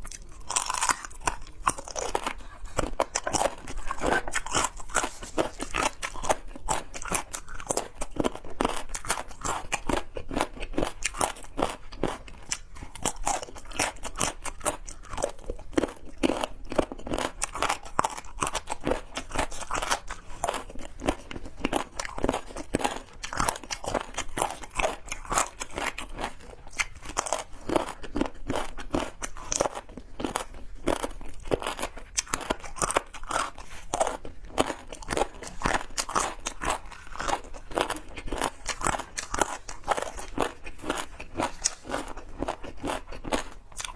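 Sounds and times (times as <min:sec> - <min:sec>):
person crunching and chewing food: 0:00.0 - 0:43.9.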